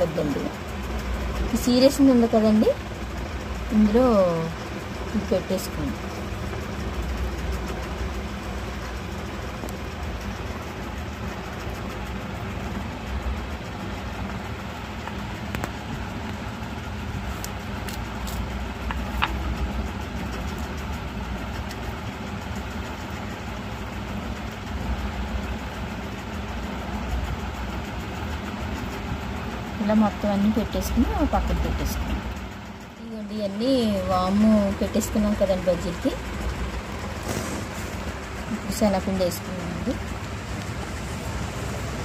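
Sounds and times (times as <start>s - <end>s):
low motor hum: 0.0s - 42.0s.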